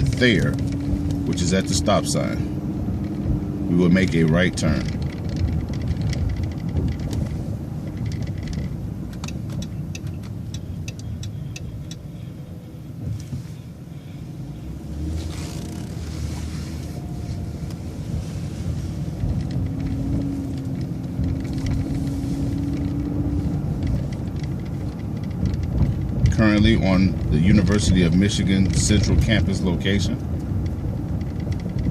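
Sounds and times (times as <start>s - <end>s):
bus engine rumbling: 0.0s - 31.9s
bus whine: 0.0s - 31.9s
turn signal ticking: 0.0s - 31.9s.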